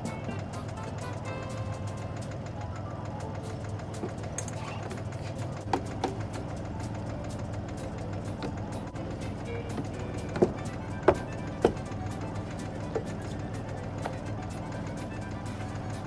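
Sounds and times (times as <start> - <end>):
diesel engine running at low revs: 0.0 - 16.0.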